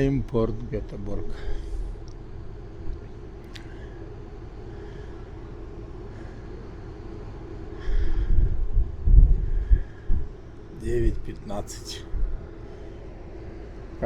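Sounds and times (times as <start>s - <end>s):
ferry engine drone: 0.0s - 14.0s
low rumble of handling noise: 0.0s - 14.0s.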